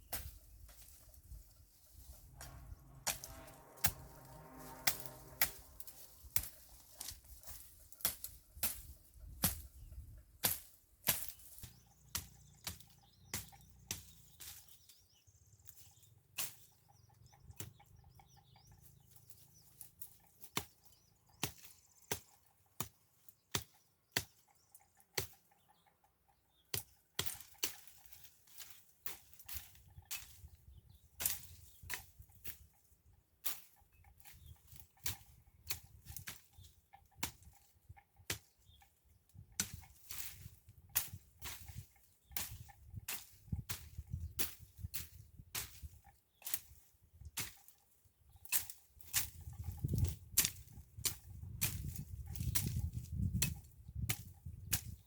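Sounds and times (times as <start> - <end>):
hand tool chopping weeds: 0.0 - 15.0, 15.6 - 16.9, 17.5 - 17.8, 18.4 - 24.4, 25.2 - 25.7, 26.5 - 30.5, 31.2 - 32.7, 33.4 - 55.0.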